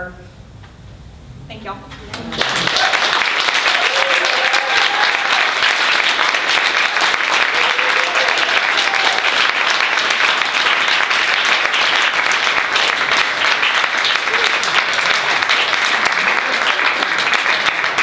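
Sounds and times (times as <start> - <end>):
audience applauding: 1.9 - 18.0.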